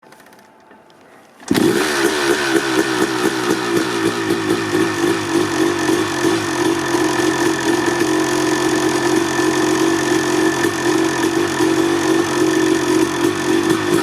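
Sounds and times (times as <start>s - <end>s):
two-stroke motorcycle engine starting: 1.4s - 14.0s.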